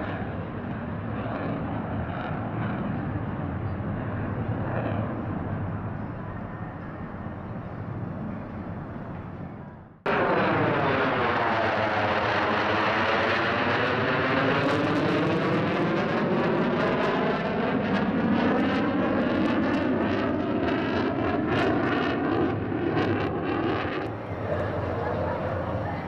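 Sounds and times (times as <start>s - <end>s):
jet flyby roar: 0.0s - 26.0s.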